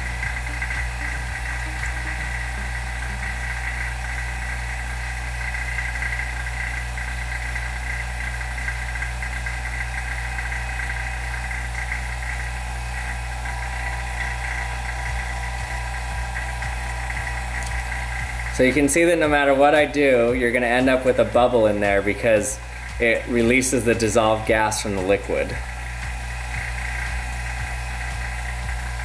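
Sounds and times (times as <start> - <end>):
vacuum pump humming and whining: 0.0 - 29.0.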